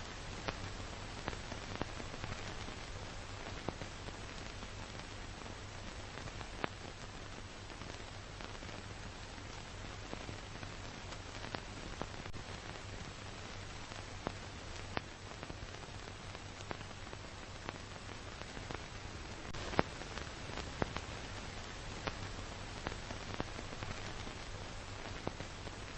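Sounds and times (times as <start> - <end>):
crackles and pops: 0.0 - 25.9
film soundtrack surface hiss: 0.0 - 25.9.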